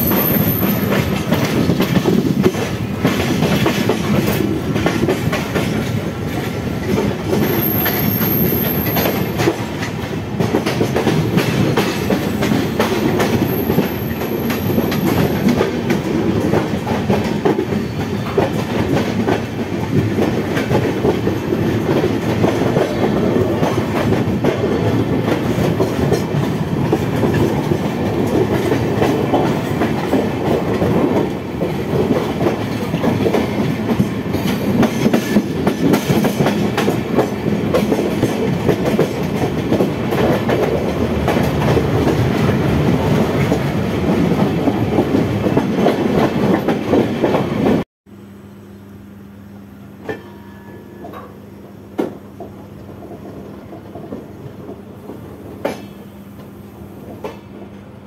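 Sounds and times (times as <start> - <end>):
clickety-clack over rail joints: 0.0 - 47.8, 51.9 - 57.9
train wheels rumbling on rails: 0.0 - 47.8, 50.0 - 58.0.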